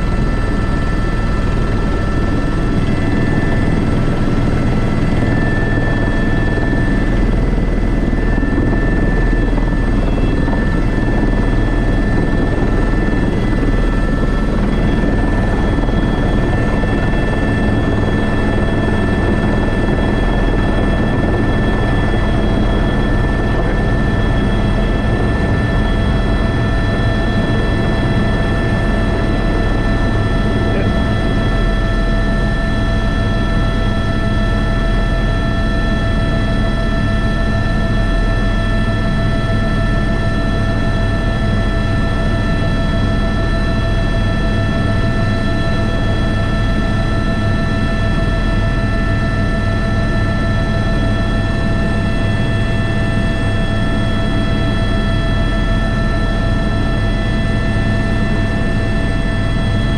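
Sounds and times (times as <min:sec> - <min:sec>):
helicopter rotor drone: 0:00.0 - 0:59.9
helicopter turbine whine: 0:00.0 - 0:59.9.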